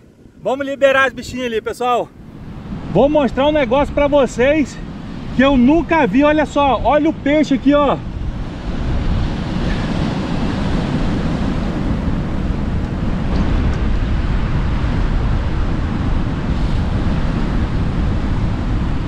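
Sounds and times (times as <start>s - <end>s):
surf breaking on beach: 0.0s - 19.0s
wind buffeting microphone: 0.0s - 19.0s.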